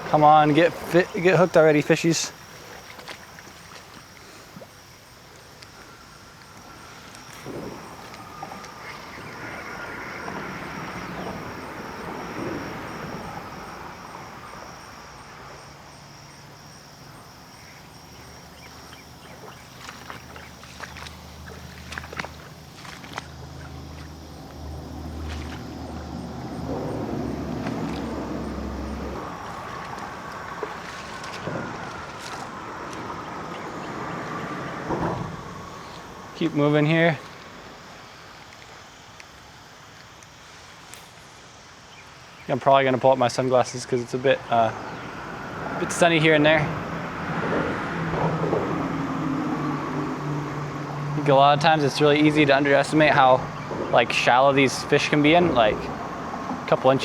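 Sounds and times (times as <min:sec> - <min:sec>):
low steady engine hum: 0:00.0 - 0:38.2, 0:42.5 - 0:57.0
creek water flowing: 0:00.0 - 0:57.0.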